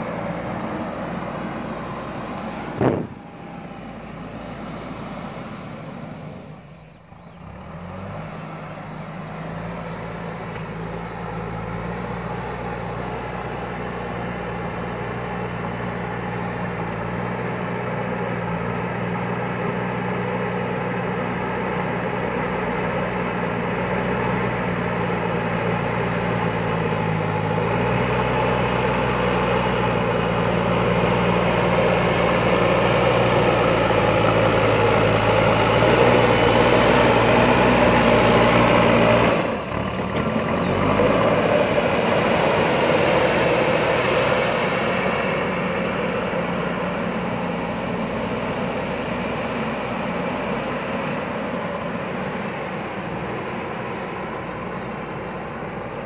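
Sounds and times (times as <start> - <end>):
loader bucket pushing soil: 0.0 - 3.5, 7.4 - 56.0
diesel engine running: 0.0 - 56.0.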